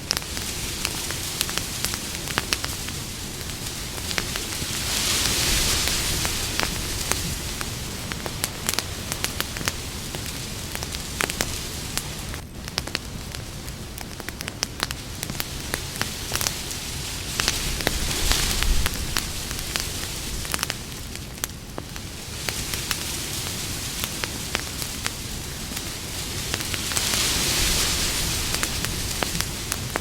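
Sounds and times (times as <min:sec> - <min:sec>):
campfire crackling and popping: 0:00.0 - 0:30.0
hiss of burning: 0:00.0 - 0:30.0.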